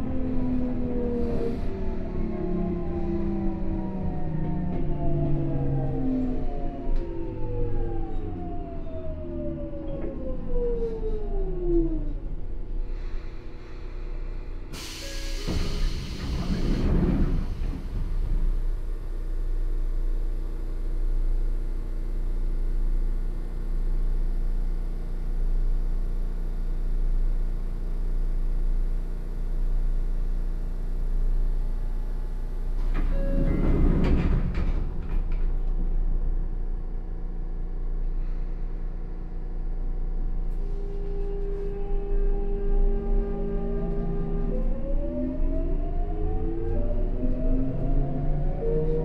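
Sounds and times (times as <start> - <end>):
electric train rumble: 0.0 - 49.0.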